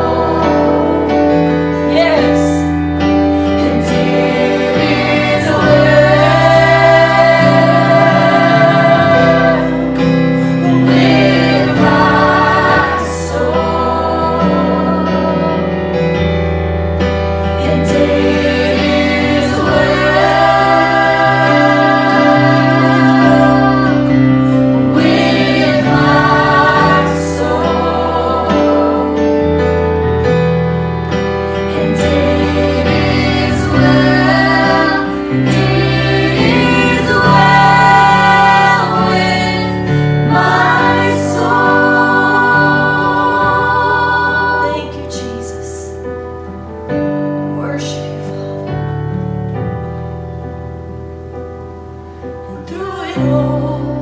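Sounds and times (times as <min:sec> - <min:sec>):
voices singing held notes: 0:00.0 - 0:47.0, 0:52.1 - 0:54.0.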